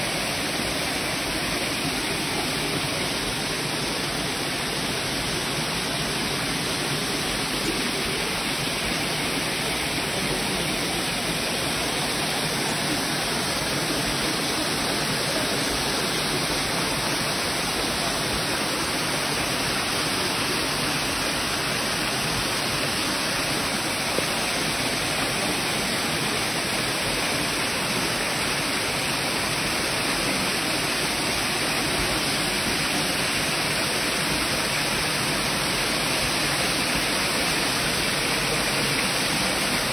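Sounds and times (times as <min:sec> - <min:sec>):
waterfall water rushing: 0:00.0 - 0:39.9.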